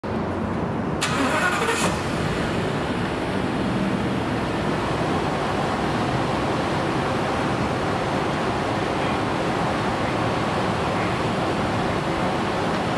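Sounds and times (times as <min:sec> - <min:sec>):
vehicle engine starting and running: 0:00.9 - 0:12.9.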